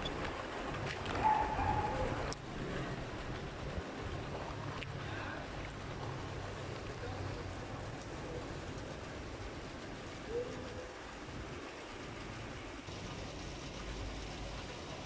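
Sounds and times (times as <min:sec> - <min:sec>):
wind-like hiss: 0:00.0 - 0:15.0.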